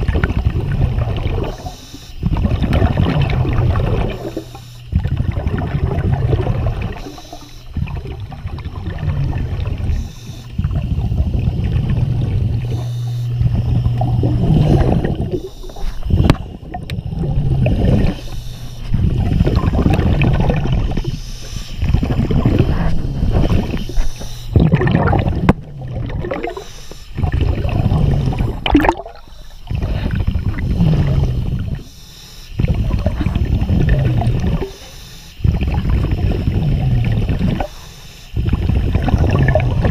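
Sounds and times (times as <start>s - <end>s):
exhaled bubbles gurgling underwater: 0.0s - 39.9s
steady low hum: 0.0s - 39.9s
regulator breaths: 1.4s - 2.5s, 3.4s - 5.2s, 6.4s - 24.8s, 26.4s - 38.9s.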